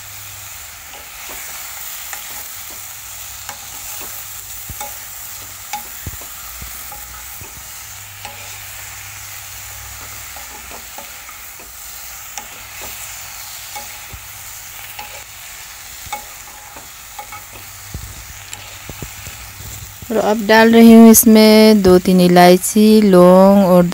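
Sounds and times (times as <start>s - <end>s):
food sizzling in wok: 0.0s - 23.9s
spoon scraping pan: 0.7s - 20.3s.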